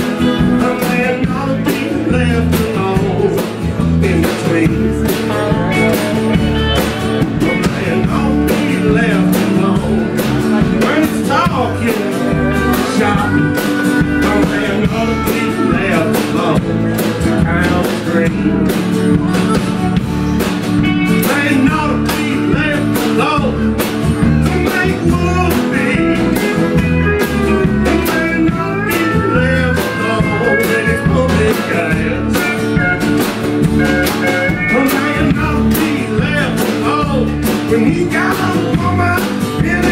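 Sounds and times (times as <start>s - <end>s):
acoustic guitar: 0.0s - 39.9s
drum beat: 0.0s - 39.9s
electric bass: 0.0s - 39.9s
steel guitar: 0.0s - 39.9s.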